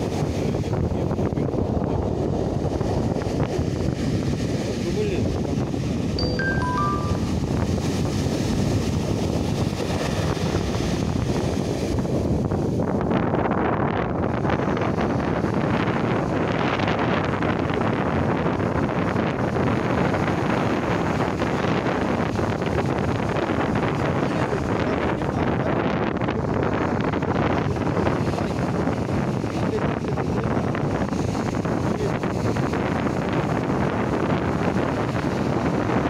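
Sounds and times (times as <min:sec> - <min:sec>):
sea surf breaking on sand: 0:00.0 - 0:36.0
wind noise on microphone: 0:00.0 - 0:36.0.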